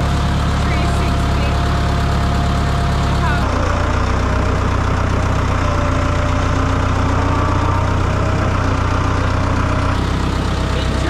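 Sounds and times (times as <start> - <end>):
tractor engine humming: 0.0 - 11.0.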